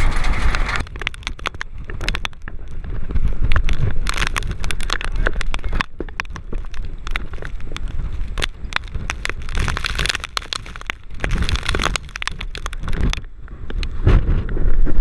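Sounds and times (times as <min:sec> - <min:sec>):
rain and hail pelting a vehicle: 0:00.0 - 0:14.2
wind gusts on microphone: 0:00.0 - 0:15.0.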